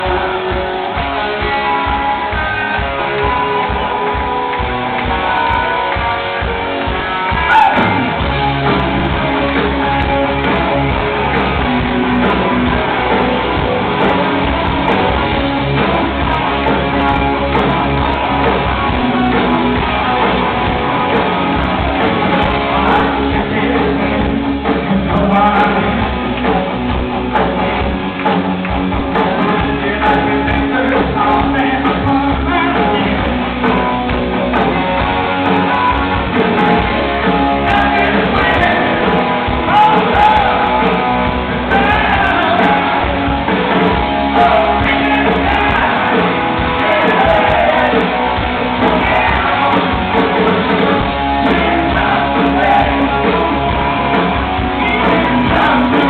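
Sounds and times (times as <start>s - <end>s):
live rock band: 0.0s - 56.0s
steady drum beat: 0.0s - 56.0s.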